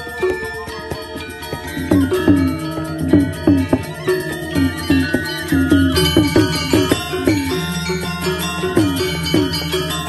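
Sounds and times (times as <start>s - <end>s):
gamelan ensemble playing: 0.0s - 10.0s
sharp struck accents: 1.1s - 10.0s.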